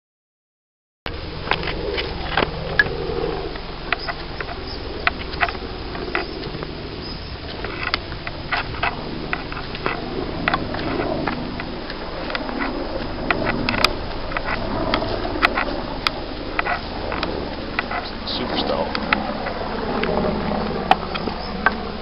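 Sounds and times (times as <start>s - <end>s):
steady low hum: 1.1s - 22.0s.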